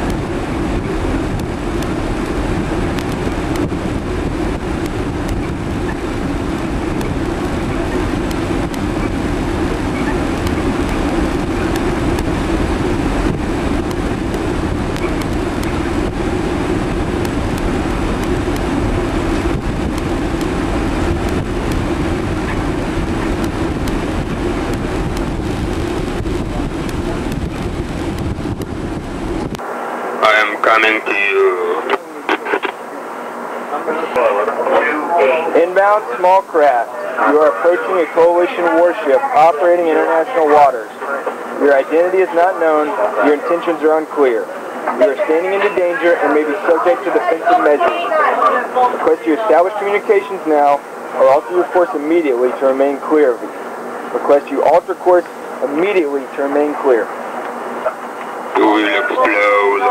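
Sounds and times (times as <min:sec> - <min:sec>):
constant low drone: 0:00.0 - 0:59.9
ship machinery rumbling: 0:00.0 - 0:59.9
wind: 0:00.0 - 0:59.9.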